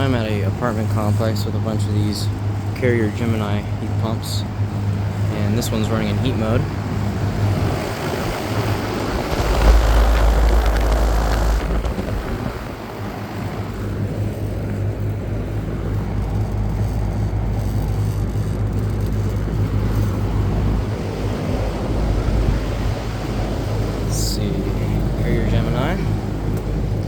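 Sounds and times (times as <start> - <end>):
compressor humming: 0.0 - 27.0
fan rushing air: 0.0 - 27.0.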